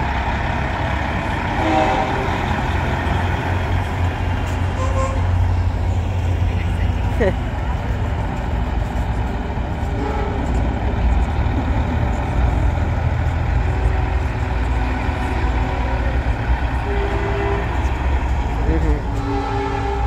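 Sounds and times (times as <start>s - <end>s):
trucks rumbling past: 0.0s - 20.0s
voices: 1.9s - 19.9s.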